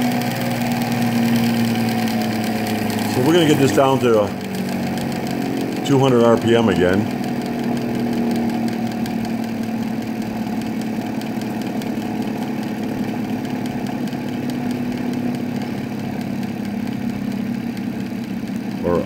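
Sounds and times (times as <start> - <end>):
tester motor humming: 0.0 - 19.0.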